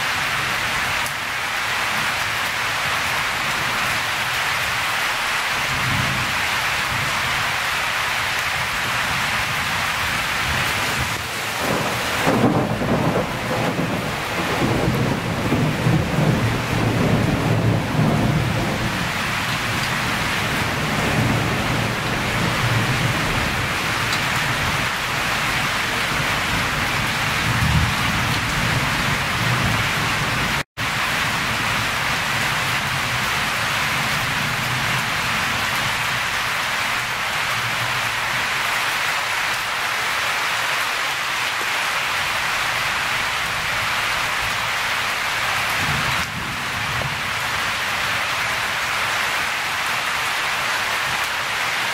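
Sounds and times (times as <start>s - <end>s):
rain hissing down: 0.0s - 51.9s.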